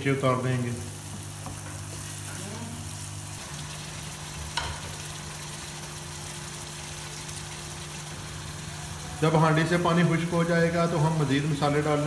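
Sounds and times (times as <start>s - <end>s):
pot cooking: 0.0s - 12.0s
vegetables sizzling in oil: 0.4s - 12.0s.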